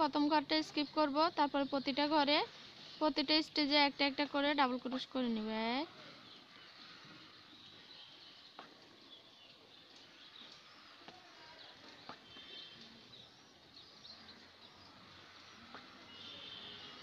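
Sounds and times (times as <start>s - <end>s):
distant bird chirps: 0.0s - 17.0s.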